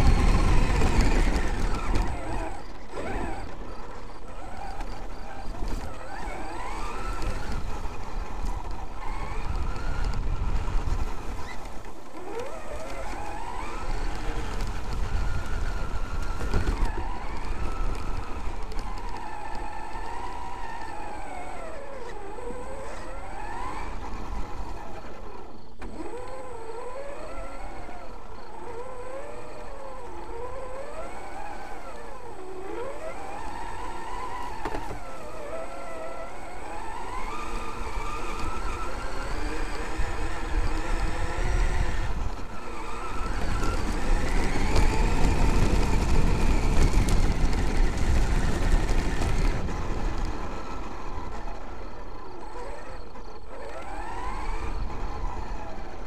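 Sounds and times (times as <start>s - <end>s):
electric motor whining: 0.0s - 56.0s
tyres rumbling over gravel: 0.0s - 56.0s.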